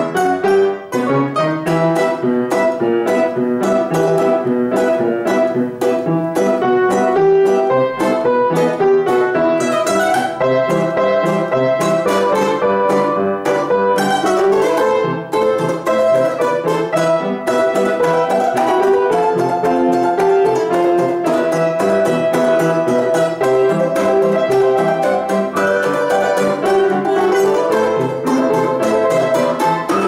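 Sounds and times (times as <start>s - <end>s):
balalaika fast strumming: 0.0s - 30.0s.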